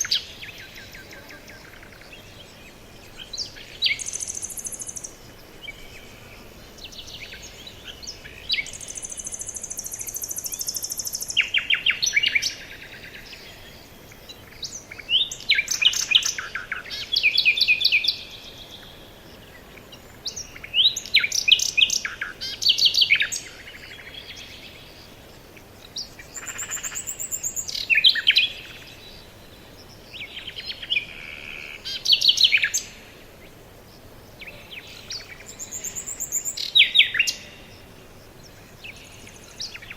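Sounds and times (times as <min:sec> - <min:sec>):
birds chirping: 0:00.0 - 0:39.9
steady hiss: 0:00.0 - 0:39.9.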